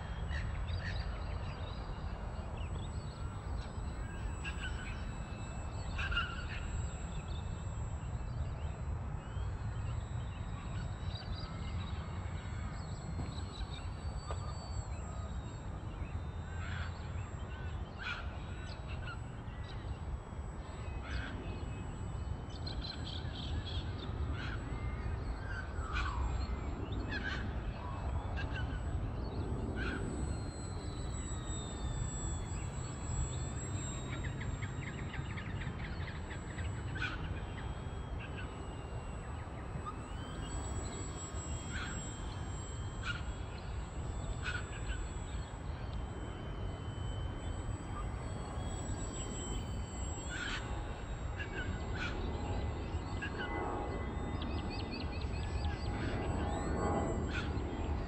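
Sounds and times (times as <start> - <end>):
birds chirping and trilling: 0.0 - 58.0
model airplane motor whine: 0.0 - 58.0.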